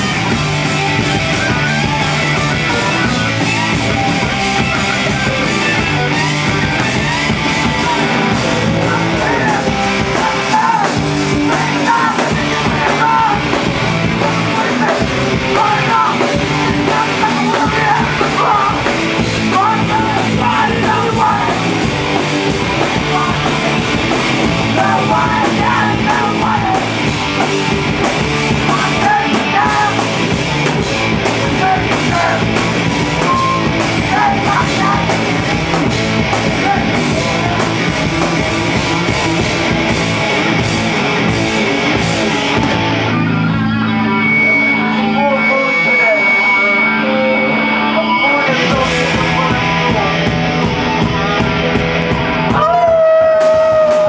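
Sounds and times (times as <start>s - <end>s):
bass guitar: 0.0s - 54.0s
distorted electric guitars: 0.0s - 54.0s
drums: 0.0s - 54.0s.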